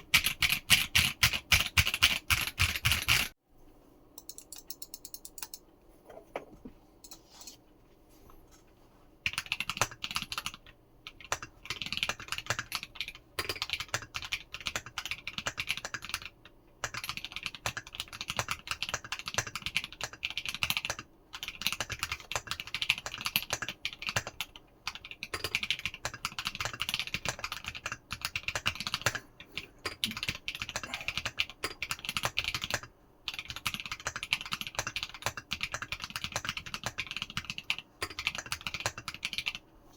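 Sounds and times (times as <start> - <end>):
mechanical keyboard typing: 0.0 - 3.3, 9.2 - 29.2, 29.8 - 39.6.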